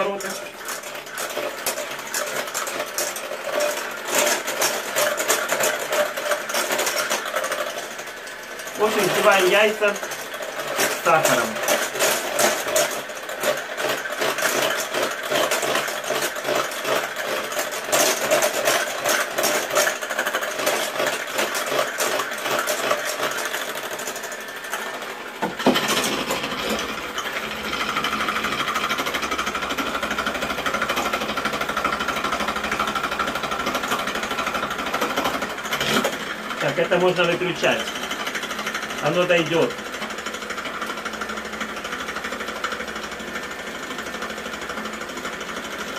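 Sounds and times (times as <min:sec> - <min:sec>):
electric hand mixer whirring: 0:00.0 - 0:45.9.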